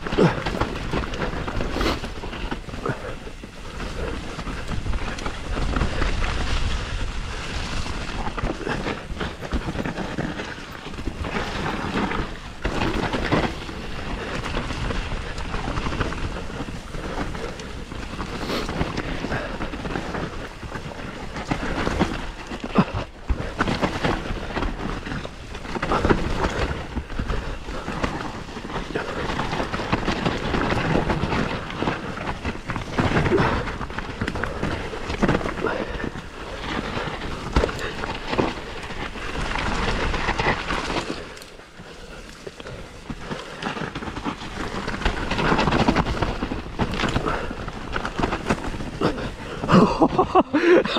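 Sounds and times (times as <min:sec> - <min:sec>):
bike rattling and knocking: 0:00.0 - 0:50.9
bike tyres rumbling over dirt: 0:00.0 - 0:50.9
wind buffeting microphone: 0:00.0 - 0:50.9.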